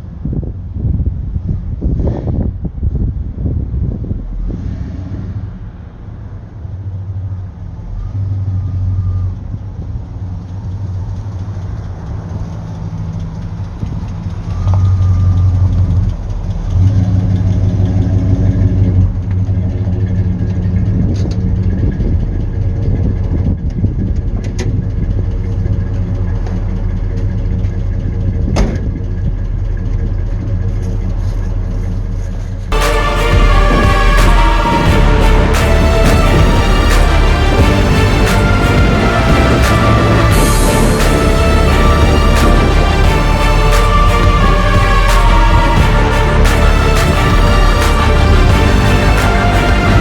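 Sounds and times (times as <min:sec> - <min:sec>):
car engine running: 0:03.8 - 0:50.0.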